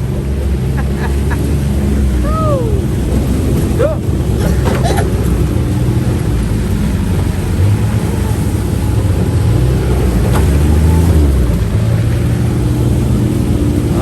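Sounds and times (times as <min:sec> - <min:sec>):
vehicle engine driving: 0:00.0 - 0:14.0.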